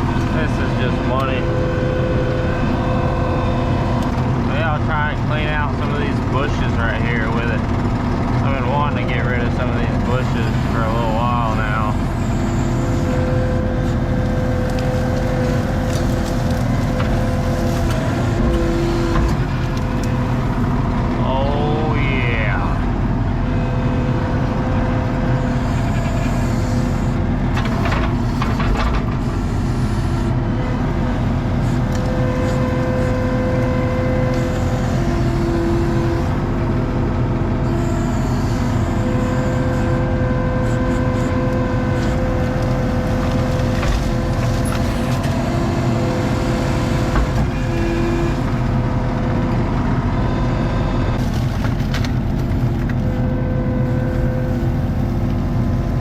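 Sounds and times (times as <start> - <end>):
whining tone: 0.0 - 51.2, 52.7 - 56.0
diesel engine running: 0.0 - 56.0.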